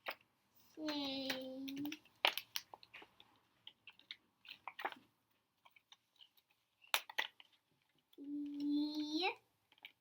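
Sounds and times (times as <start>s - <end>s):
paper cards tapping and rustling: 0.0s - 10.0s.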